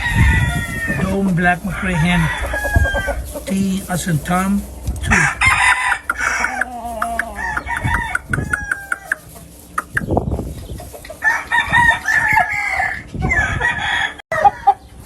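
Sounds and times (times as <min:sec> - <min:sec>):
chickens clucking: 0:00.0 - 0:13.7
roosters crowing: 0:00.0 - 0:14.9.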